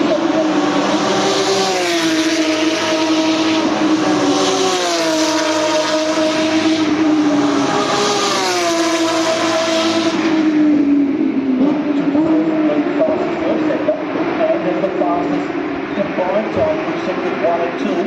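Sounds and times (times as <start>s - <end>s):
race car engines at high revs: 0.0s - 18.0s.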